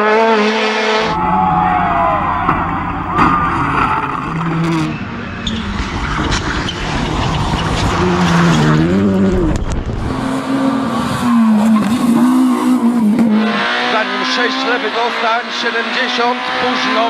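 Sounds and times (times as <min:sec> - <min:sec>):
rally car engine revving: 0:00.0 - 0:17.0
tyre and road noise: 0:00.8 - 0:17.0.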